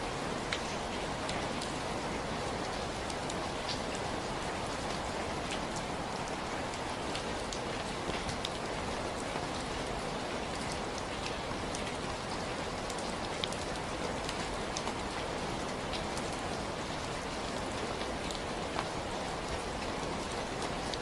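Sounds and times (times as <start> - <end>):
steady rain hiss: 0.0 - 21.0
raindrop ticks: 0.4 - 1.8, 2.6 - 9.9, 10.5 - 16.4, 18.0 - 21.0.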